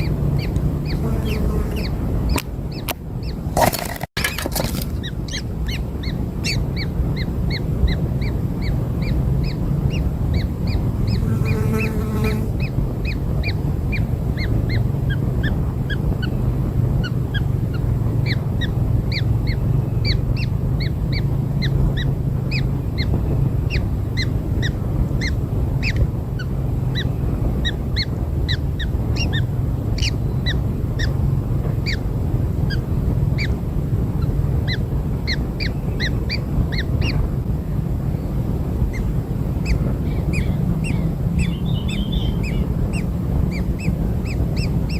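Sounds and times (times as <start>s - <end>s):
chicks cheeping: 0.0s - 31.2s, 31.8s - 33.6s, 34.2s - 37.2s, 38.3s - 44.9s
steady low rumble: 0.0s - 44.9s.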